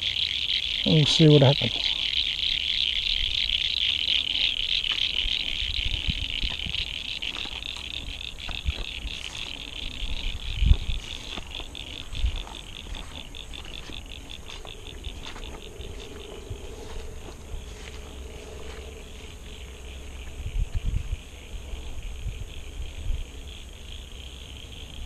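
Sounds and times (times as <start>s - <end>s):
frogs calling in chorus: 0.0s - 25.0s.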